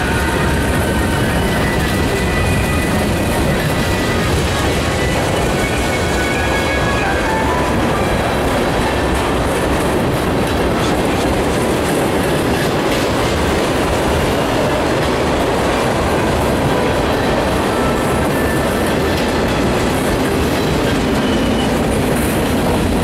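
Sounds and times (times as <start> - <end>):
steel wheels rolling on rails: 0.0 - 23.0.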